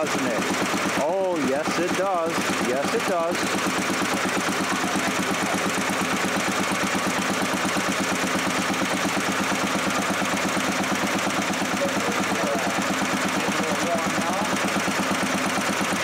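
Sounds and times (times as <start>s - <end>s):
small engine idling: 0.0s - 16.0s.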